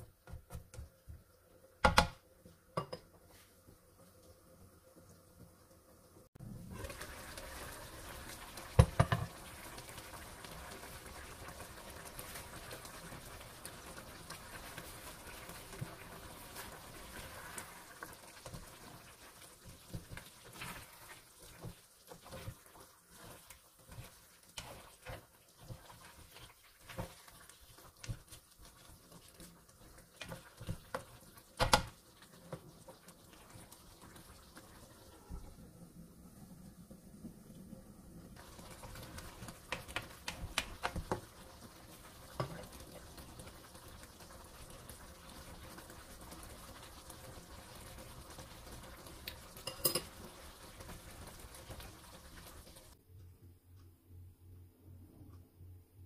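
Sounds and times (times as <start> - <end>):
spatula stirring with pops and clicks: 0.0 - 35.5, 38.4 - 53.9
stew simmering in a wok: 0.0 - 53.0.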